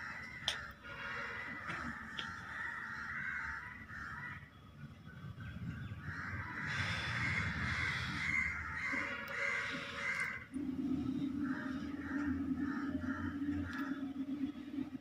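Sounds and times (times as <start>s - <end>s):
birds giving harsh calls: 0.0s - 15.0s.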